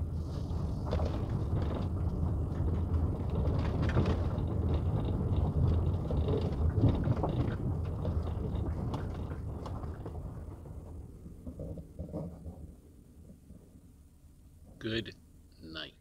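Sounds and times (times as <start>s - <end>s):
car engine and tyres rumbling: 0.0s - 15.5s
light clicks and crackles: 0.2s - 13.8s.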